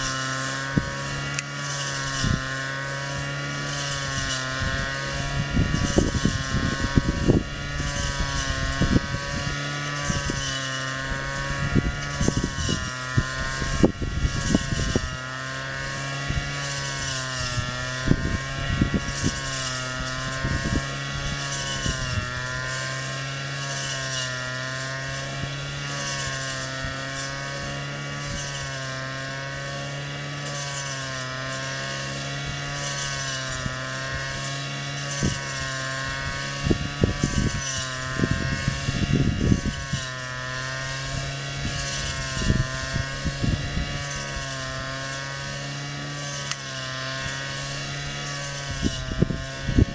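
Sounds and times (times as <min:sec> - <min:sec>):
brush cutter engine running: 0:00.0 - 0:49.9.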